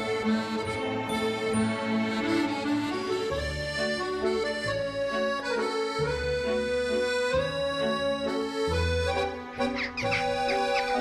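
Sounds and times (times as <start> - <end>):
instrumental music with held chords: 0.0 - 11.0.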